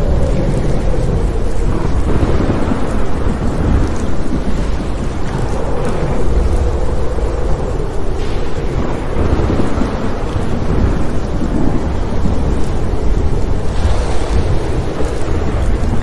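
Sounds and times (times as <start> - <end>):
rain hissing: 0.0 - 16.0
thunder rumbling: 0.0 - 16.0.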